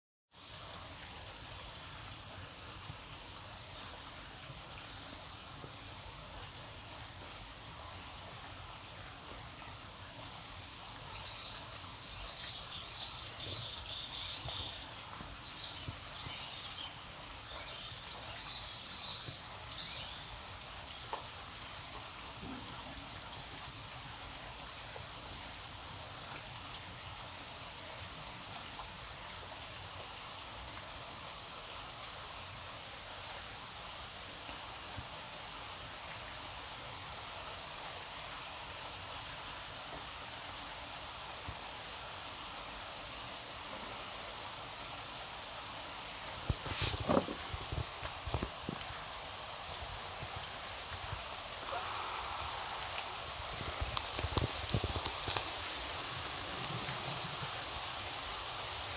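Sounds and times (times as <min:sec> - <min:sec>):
outdoor background hiss: 0:00.3 - 0:58.9.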